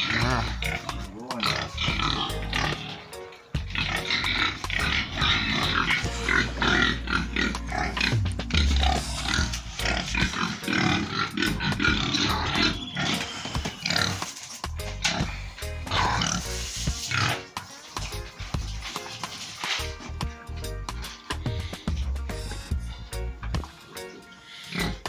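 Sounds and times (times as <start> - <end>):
background music: 0.0 - 25.0
pigs grunting: 0.0 - 25.0.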